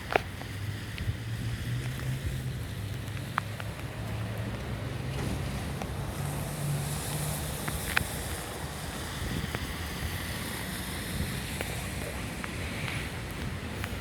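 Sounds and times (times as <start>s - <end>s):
wind noise on microphone: 0.0s - 3.9s, 5.2s - 14.0s.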